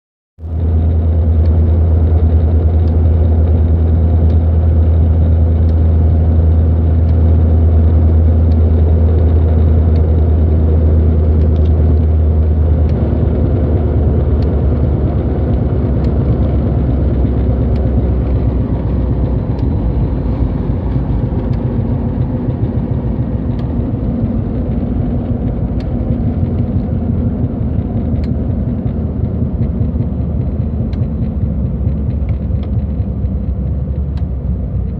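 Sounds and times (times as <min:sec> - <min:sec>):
car engine droning: 0:00.4 - 0:34.9
speedometer ticking: 0:01.3 - 0:34.9.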